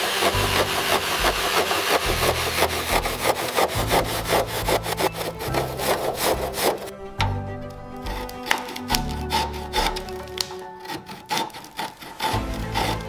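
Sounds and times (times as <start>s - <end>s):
hand scraping a surface: 0.0s - 13.0s.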